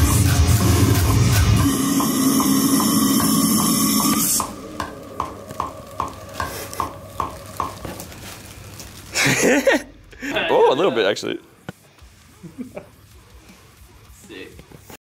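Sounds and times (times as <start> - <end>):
distorted metal music: 0.0 - 14.5.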